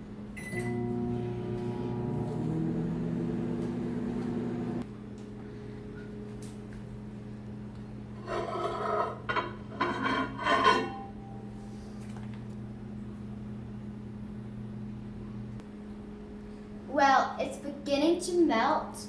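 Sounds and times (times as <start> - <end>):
microwave oven humming: 0.0 - 9.8, 10.6 - 16.6.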